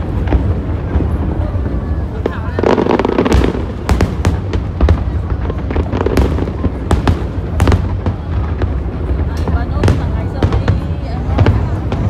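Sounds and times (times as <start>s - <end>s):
fireworks bursting bangs: 0.0s - 12.0s.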